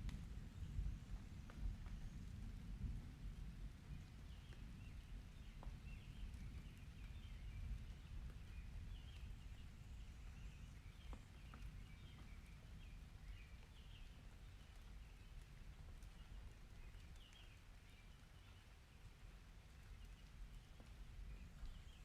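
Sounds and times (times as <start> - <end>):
rain: 0.0 - 22.0.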